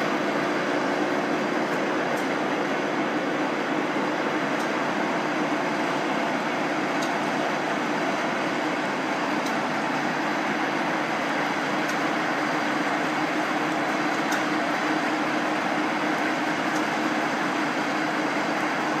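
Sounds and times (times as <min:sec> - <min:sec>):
lathe mechanical hum: 0:00.0 - 0:19.0.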